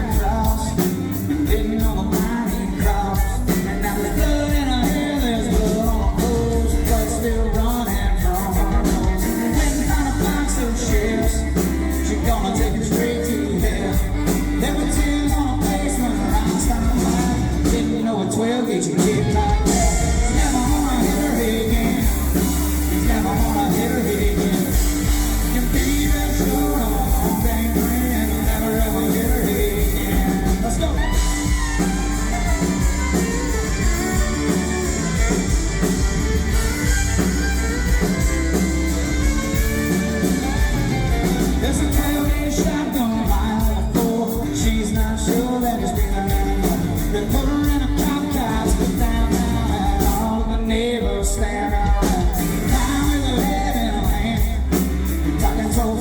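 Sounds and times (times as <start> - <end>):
country-rock band playing: 0.0 - 56.0
electric guitars: 0.0 - 56.0
lead singer singing: 0.0 - 56.0
steady drum beat: 0.0 - 56.0.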